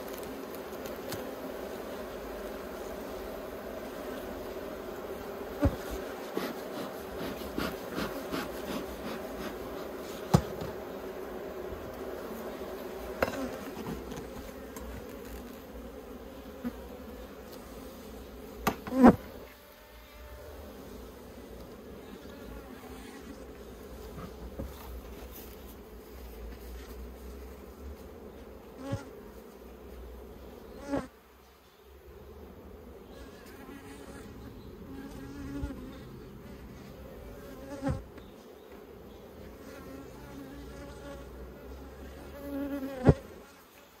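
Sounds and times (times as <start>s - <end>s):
bees buzzing: 0.0s - 44.0s.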